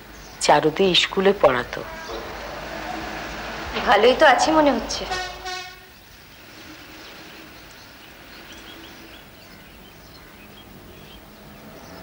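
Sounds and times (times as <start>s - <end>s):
steady background hiss: 0.0s - 11.8s.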